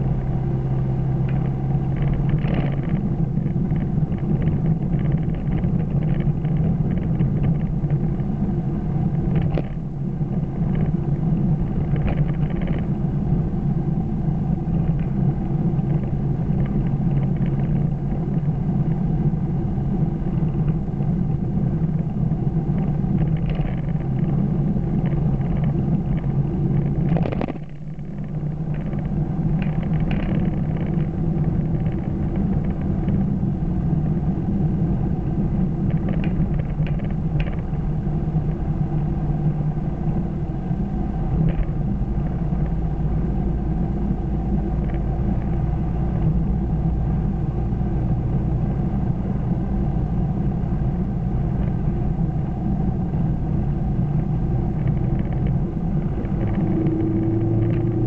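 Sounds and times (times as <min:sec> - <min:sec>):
car engine and tyre drone: 0:00.0 - 0:58.0.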